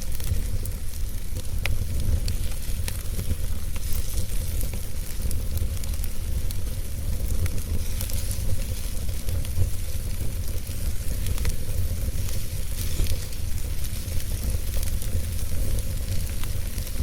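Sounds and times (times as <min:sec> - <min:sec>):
fire pops and snaps: 0:00.0 - 0:17.0
wood fire crackling: 0:00.0 - 0:17.0.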